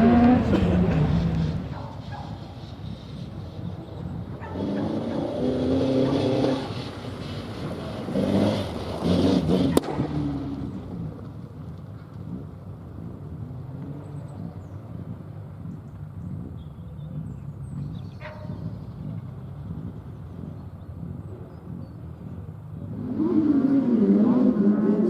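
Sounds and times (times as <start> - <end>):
rally car engine revving: 0.0 - 3.3, 3.9 - 16.4, 17.0 - 25.0.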